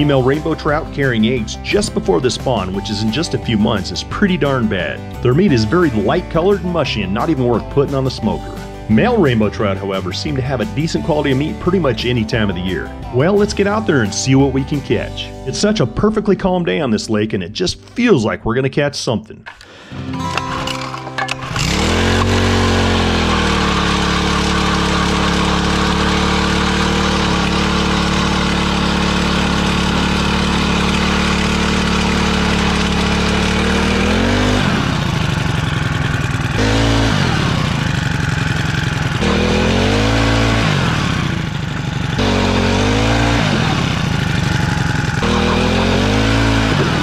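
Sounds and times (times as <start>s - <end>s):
ice auger engine revving: 0.0s - 14.8s, 19.5s - 47.0s.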